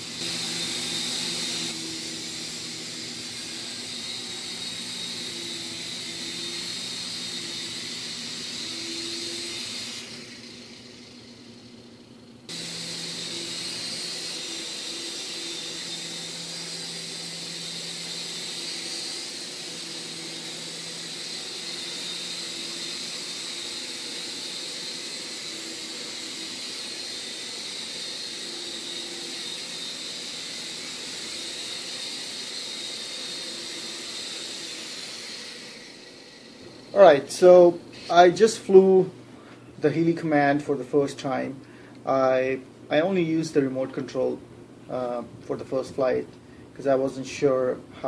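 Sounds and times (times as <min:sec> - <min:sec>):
rc helicopter rotors whirring: 0:00.0 - 0:39.1.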